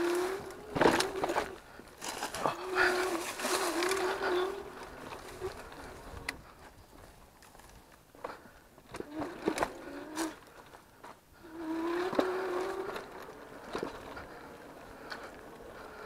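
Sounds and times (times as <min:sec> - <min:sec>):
electric motor whine: 0:00.0 - 0:06.5, 0:08.9 - 0:10.6, 0:11.4 - 0:16.0
brush scraping handlebars: 0:00.0 - 0:06.6, 0:08.2 - 0:10.8, 0:11.4 - 0:16.0.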